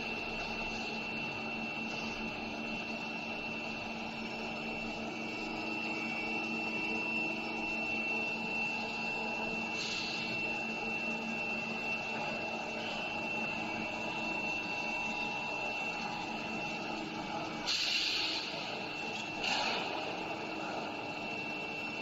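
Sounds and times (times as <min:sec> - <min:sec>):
metalworking machine whining and grinding: 0:00.0 - 0:22.0.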